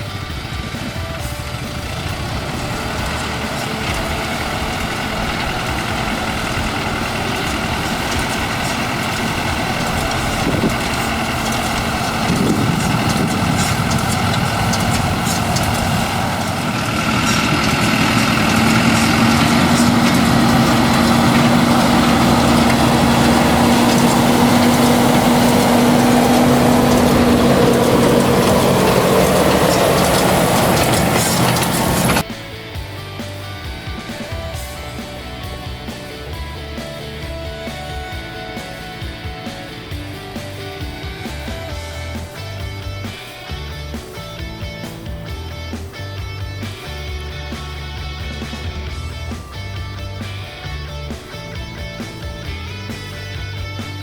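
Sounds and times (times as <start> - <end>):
steady whine: 0.0 - 44.3
tractor diesel engine running: 0.0 - 54.0.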